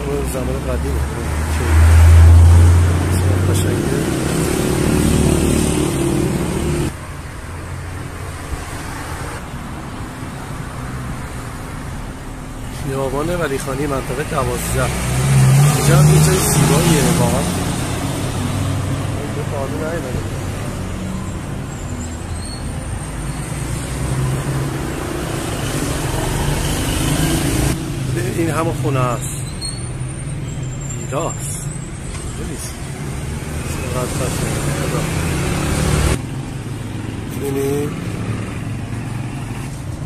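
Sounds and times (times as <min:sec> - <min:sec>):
street traffic: 0:00.0 - 0:40.0.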